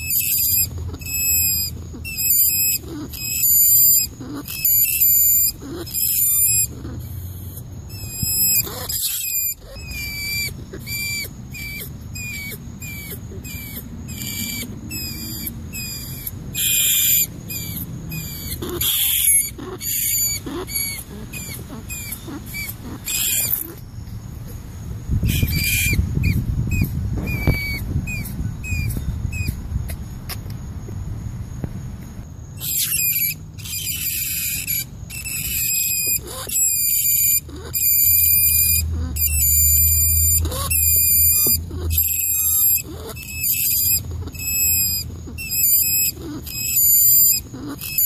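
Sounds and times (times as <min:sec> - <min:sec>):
harsh rat squeals: 0:00.0 - 0:23.9, 0:25.2 - 0:29.6, 0:32.6 - 0:48.0
rat squeaking: 0:00.0 - 0:24.1, 0:25.2 - 0:30.0, 0:32.6 - 0:48.0.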